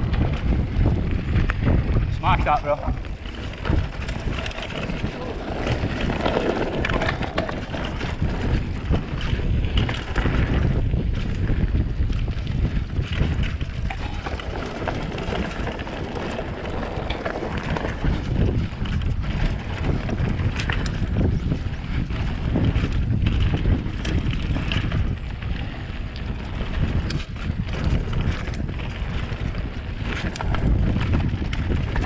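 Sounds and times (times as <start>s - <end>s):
bike rattles and knocks: 0.0s - 32.0s
tyres rumbling on gravel: 0.0s - 32.0s
wind buffeting microphone: 0.0s - 32.0s.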